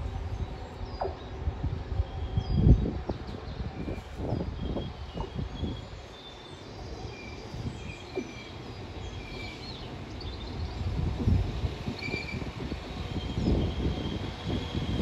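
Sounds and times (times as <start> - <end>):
wind gusting on microphone: 0.0 - 6.1, 6.7 - 15.0.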